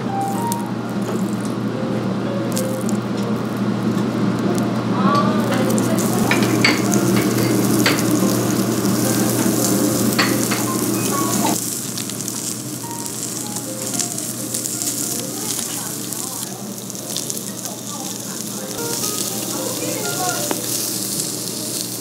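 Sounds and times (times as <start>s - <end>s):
meat sizzling on a grill plate: 0.1s - 1.5s, 2.4s - 22.0s.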